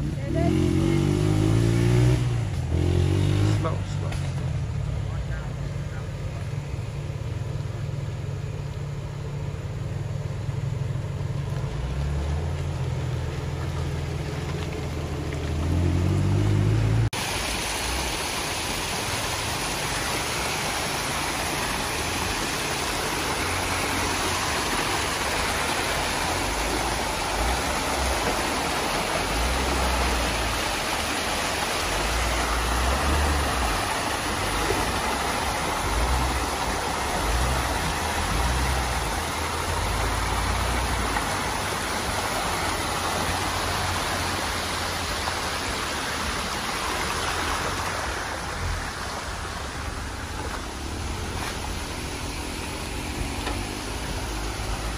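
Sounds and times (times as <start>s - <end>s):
off-road vehicle engine revving: 0.0s - 18.4s, 19.9s - 54.9s
creek water rushing: 0.0s - 54.9s
vehicle driving through water: 0.0s - 54.9s.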